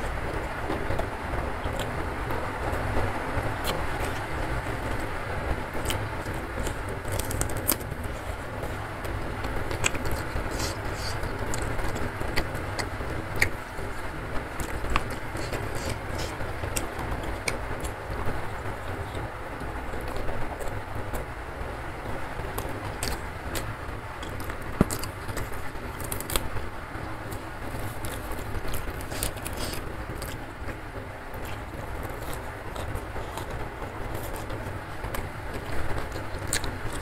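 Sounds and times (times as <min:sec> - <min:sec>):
fingers working rice: 0:00.0 - 0:21.2, 0:22.5 - 0:37.0
close-up chewing: 0:00.0 - 0:21.3, 0:22.1 - 0:37.0.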